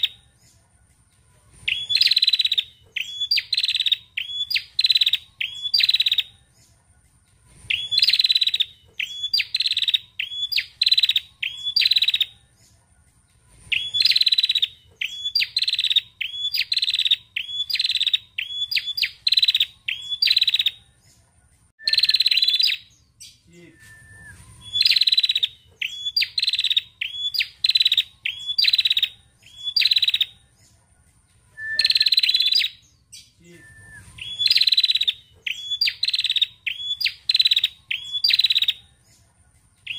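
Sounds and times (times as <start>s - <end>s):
bird singing sharp high chirps: 0.0s - 0.6s, 1.5s - 6.5s, 7.6s - 12.5s, 13.6s - 21.0s, 21.8s - 30.5s, 31.5s - 39.0s.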